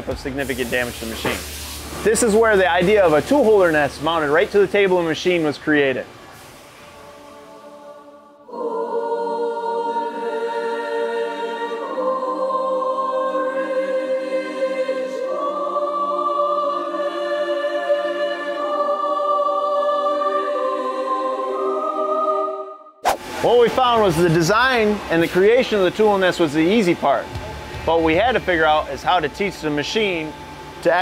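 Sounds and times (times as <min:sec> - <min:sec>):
choir singing sustained chords: 0:01.0 - 0:05.4, 0:06.7 - 0:31.0.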